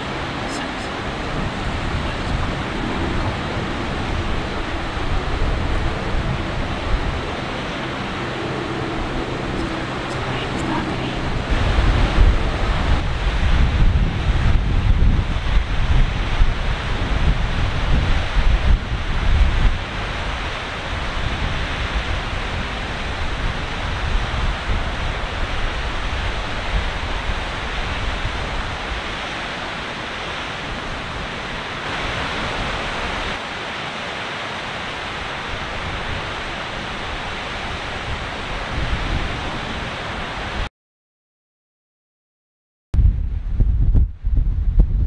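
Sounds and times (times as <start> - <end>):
wind buffeting microphone: 0.0 - 33.4, 35.2 - 40.7, 43.0 - 45.0
steady rushing noise: 0.0 - 40.7, 43.0 - 45.0.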